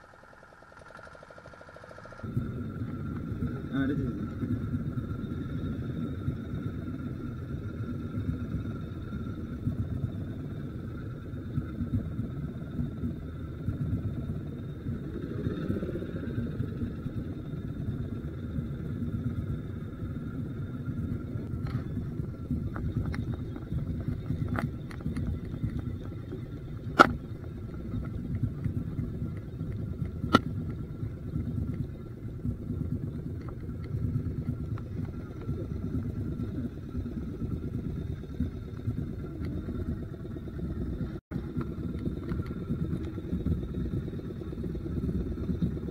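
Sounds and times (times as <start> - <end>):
engine running with whine: 0.0 - 45.9.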